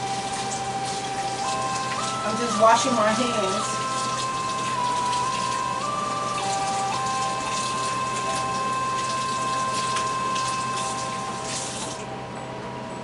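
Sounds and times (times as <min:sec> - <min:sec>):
tap running: 0:00.0 - 0:12.1.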